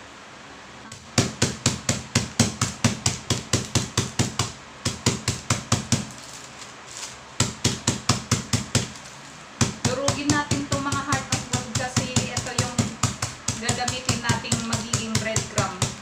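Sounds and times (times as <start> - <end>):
block pounding cracker packet: 1.0 - 16.0.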